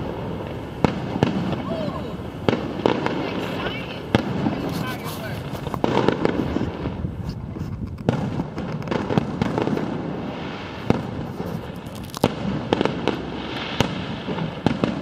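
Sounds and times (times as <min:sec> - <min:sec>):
fireworks sharp bangs: 0:00.0 - 0:15.0
low rumble of firework bursts: 0:00.0 - 0:15.0.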